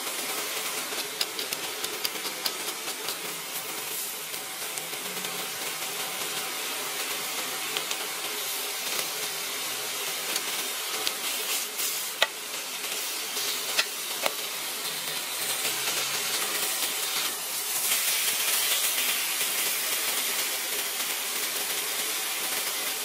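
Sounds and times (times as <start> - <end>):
steak sizzling in a pan: 0.0 - 23.0.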